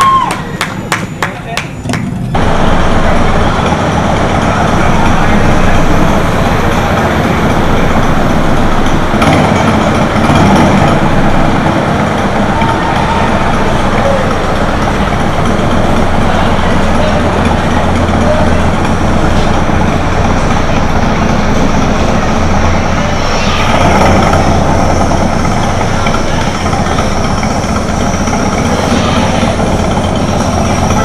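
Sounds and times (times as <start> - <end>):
roller coaster rumbling on track: 0.0 - 31.0.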